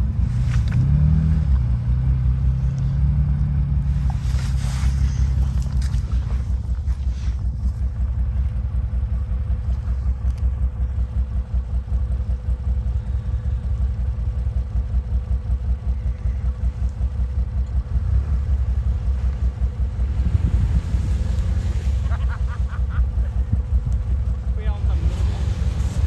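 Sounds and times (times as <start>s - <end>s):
atv engine rumbling: 0.0s - 26.0s.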